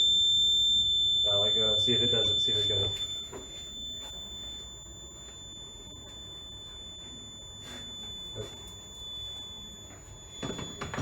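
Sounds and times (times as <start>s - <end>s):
buzzer high-pitched tone: 0.0s - 11.0s.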